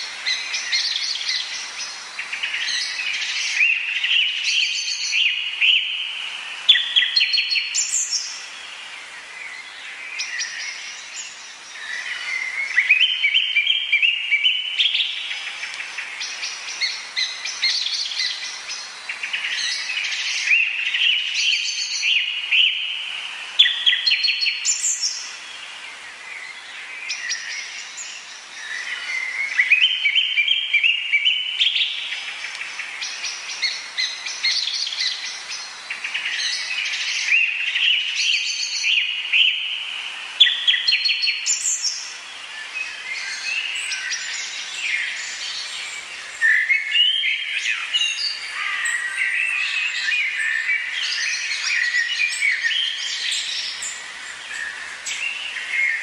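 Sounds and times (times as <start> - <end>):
faint background hiss: 0.0 - 56.0
tropical forest birds singing: 0.0 - 56.0.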